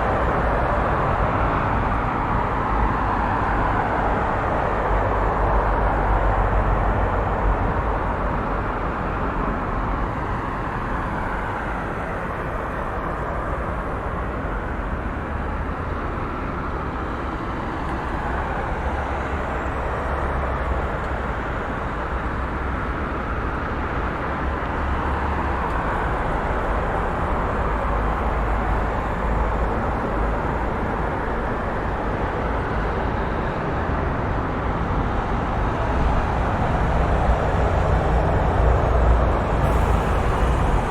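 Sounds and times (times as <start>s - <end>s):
city road traffic: 0.0s - 40.9s.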